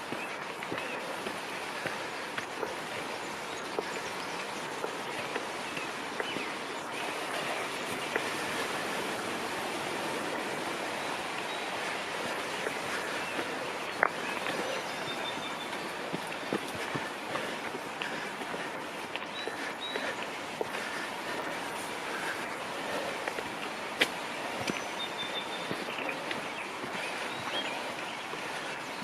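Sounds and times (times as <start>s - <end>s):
steady rushing noise: 0.0s - 29.0s.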